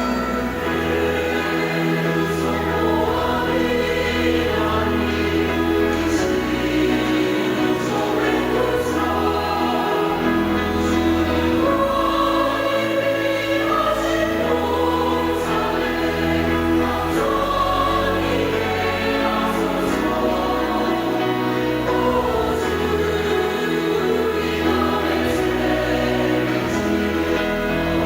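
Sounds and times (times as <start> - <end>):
choir singing a hymn: 0.0 - 28.0.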